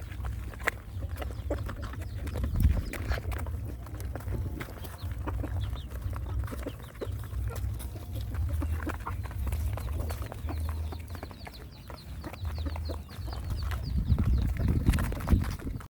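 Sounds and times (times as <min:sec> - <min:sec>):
dogs chewing and lapping: 0:00.0 - 0:15.9
steady low rumble: 0:00.0 - 0:15.9.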